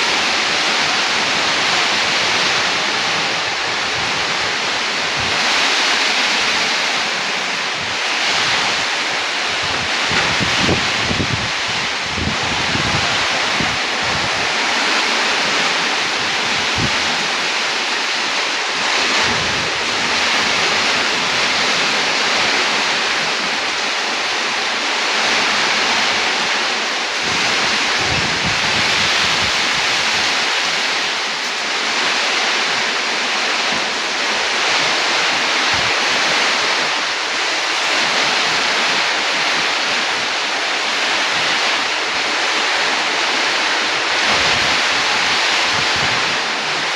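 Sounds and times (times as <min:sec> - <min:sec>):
heavy rain hissing: 0:00.0 - 0:46.9
wind buffeting microphone: 0:00.0 - 0:46.9.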